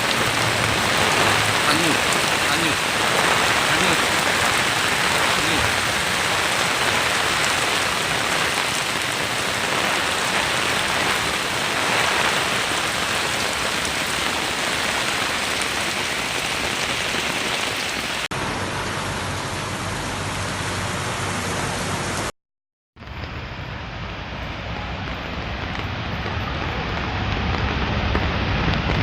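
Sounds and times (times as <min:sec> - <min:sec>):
heavy rain and rushing floodwater: 0:00.0 - 0:22.3, 0:23.0 - 0:29.0.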